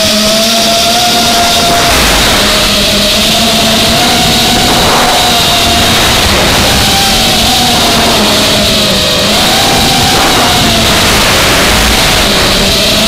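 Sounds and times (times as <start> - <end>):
prop and wind rush: 0.0 - 13.0
quadcopter motors whining: 0.0 - 13.0.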